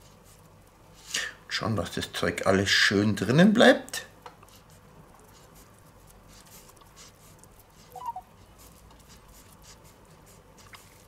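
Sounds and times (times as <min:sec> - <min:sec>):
hands shaping minced meat: 0:00.0 - 0:02.4, 0:04.2 - 0:11.0.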